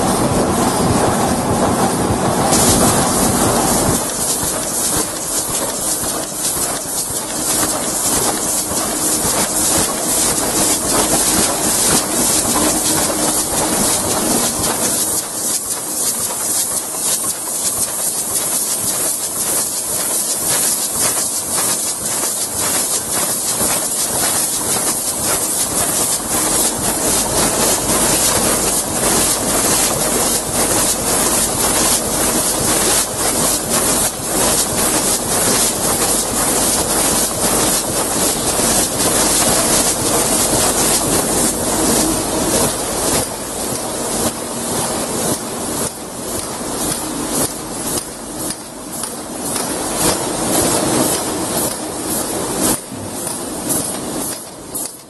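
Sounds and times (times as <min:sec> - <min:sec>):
machine clatter and hiss: 0:00.0 - 0:55.0
rapid clicking: 0:02.5 - 0:44.4, 0:45.3 - 0:55.0.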